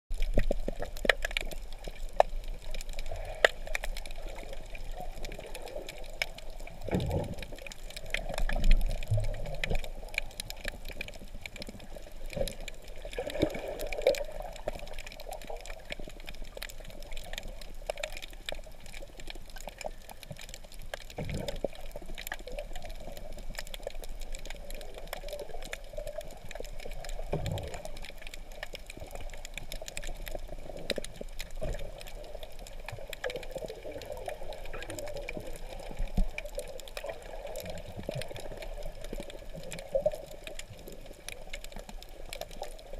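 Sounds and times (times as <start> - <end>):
fine crackling clicks: 0.1 - 42.9
muffled underwater water wash: 0.1 - 42.9.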